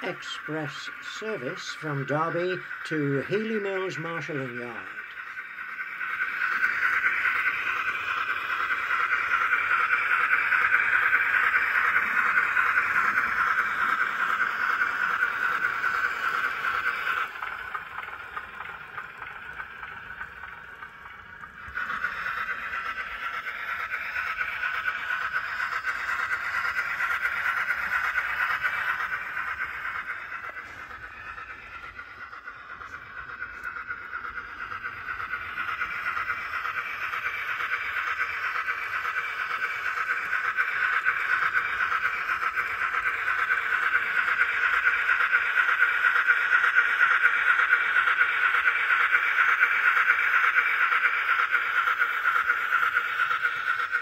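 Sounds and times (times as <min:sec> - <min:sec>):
model steam locomotive exhaust beat: 0:00.0 - 0:54.0.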